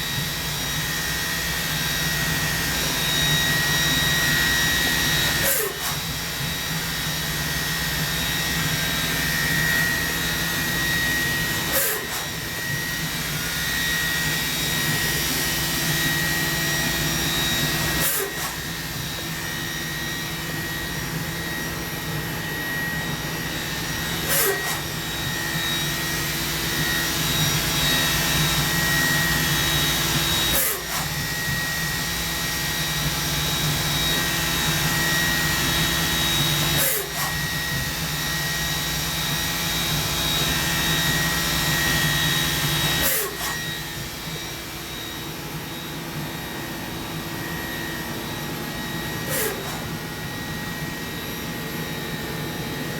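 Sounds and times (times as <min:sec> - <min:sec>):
machining center whining: 0:00.1 - 0:52.9.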